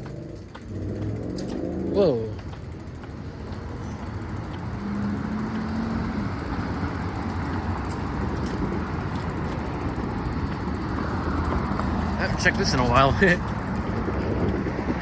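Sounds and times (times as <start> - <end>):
low hum: 0.0 - 12.2
bike rolling on concrete: 0.0 - 15.0.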